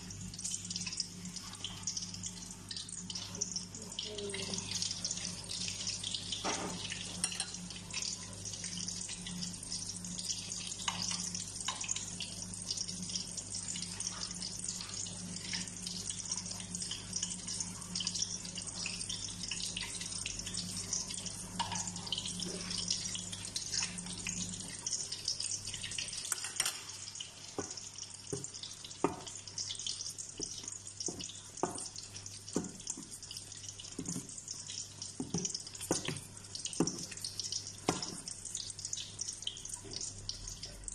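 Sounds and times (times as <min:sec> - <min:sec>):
low steady hum: 0:00.0 - 0:40.9
oil sizzling in a pan: 0:00.0 - 0:40.9.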